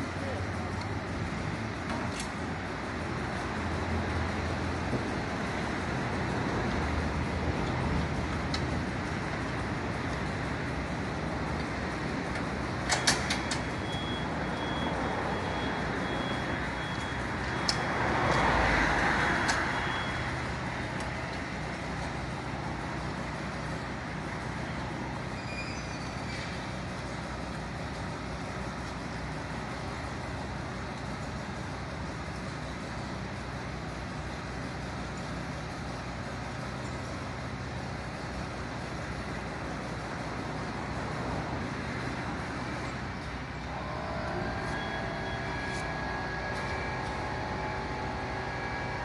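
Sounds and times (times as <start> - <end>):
truck engine idling: 0.0 - 49.0.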